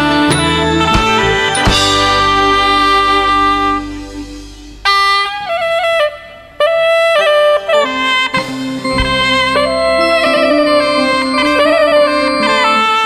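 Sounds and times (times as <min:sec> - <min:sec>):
live band music: 0:00.0 - 0:13.0
reed woodwind melody: 0:00.0 - 0:13.0.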